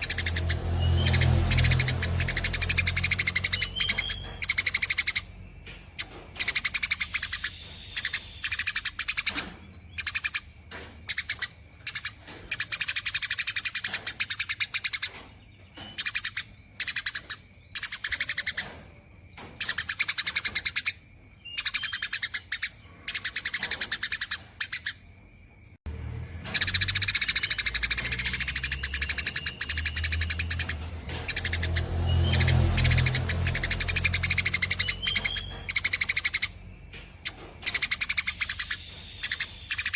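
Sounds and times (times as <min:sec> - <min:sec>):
sparrow chattering trills: 0:00.0 - 0:25.8, 0:26.5 - 0:39.9.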